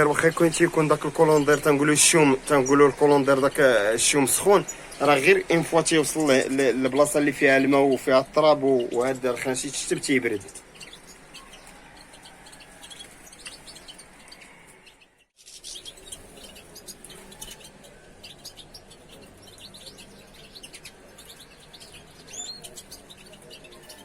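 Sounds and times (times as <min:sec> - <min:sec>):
small birds chirping and twittering: 0:00.0 - 0:24.0.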